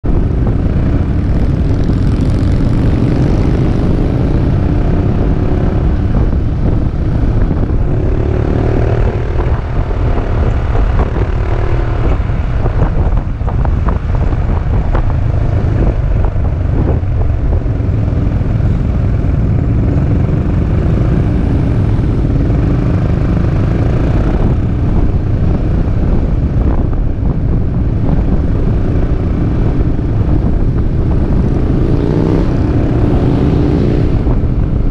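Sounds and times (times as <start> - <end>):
wind rumble on microphone: 0.0 - 34.9.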